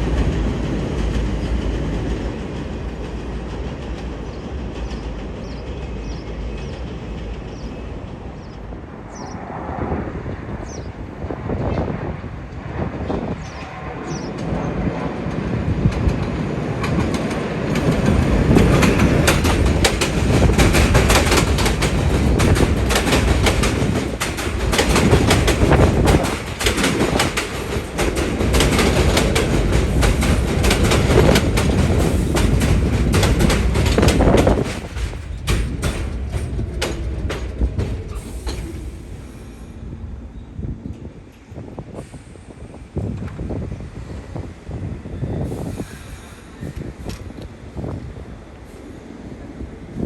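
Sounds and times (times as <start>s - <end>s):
subway train wheels clattering: 0.0s - 50.0s.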